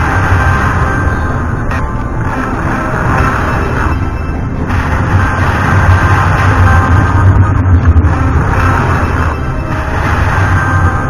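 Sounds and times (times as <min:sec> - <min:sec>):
electronic game music: 0:00.0 - 0:11.0.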